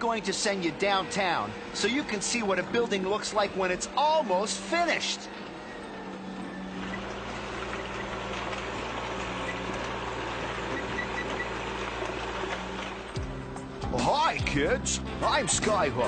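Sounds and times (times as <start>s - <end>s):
steady motor hum: 0.0s - 16.0s.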